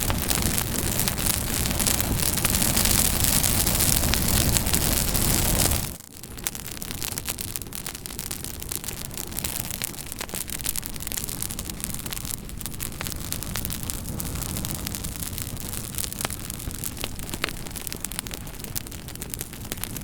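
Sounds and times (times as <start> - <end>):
burning wood crackling and popping: 0.0 - 20.0
campfire flames hissing: 0.0 - 20.0.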